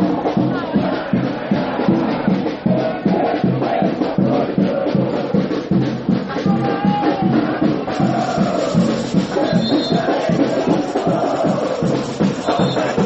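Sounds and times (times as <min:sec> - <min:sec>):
fans singing a chant: 0:00.0 - 0:13.0
samba drumming: 0:00.0 - 0:13.0.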